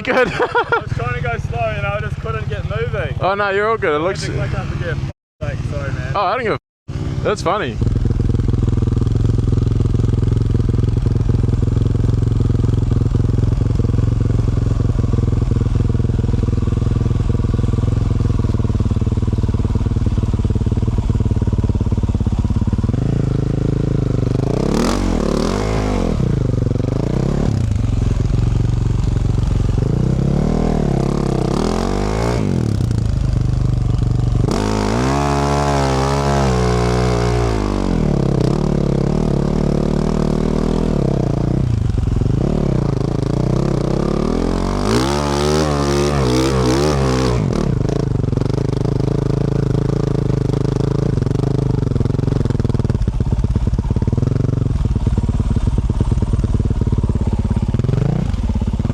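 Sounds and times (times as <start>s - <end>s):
motorcycle engine idling: 0.0s - 45.1s, 46.1s - 58.9s
motorcycle engine revving: 0.0s - 58.9s.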